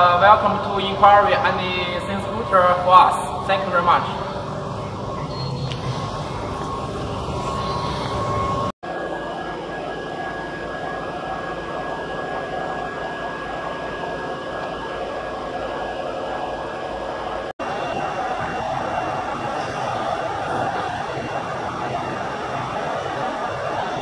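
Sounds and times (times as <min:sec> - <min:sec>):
thin high whine: 0:00.0 - 0:24.0
workshop machinery drone: 0:00.0 - 0:24.0.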